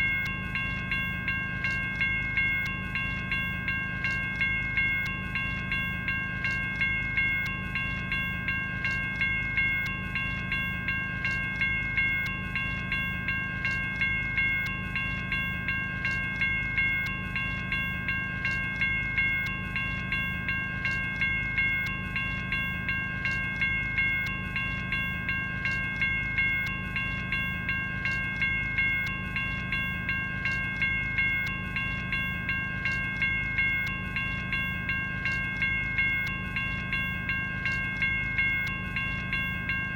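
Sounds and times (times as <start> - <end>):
electronic crossing bell ringing: 0.0 - 39.9.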